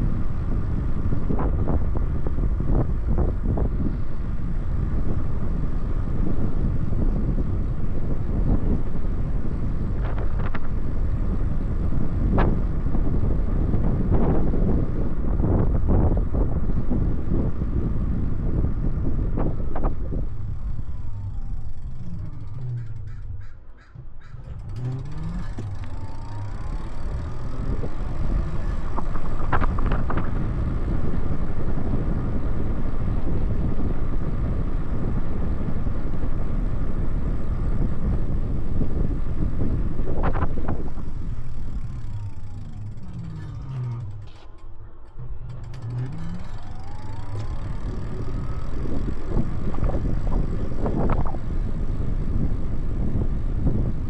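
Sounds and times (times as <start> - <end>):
e-bike riding noise: 0.0 - 54.0
faint motor whine: 0.0 - 54.0
wind rush: 0.0 - 54.0.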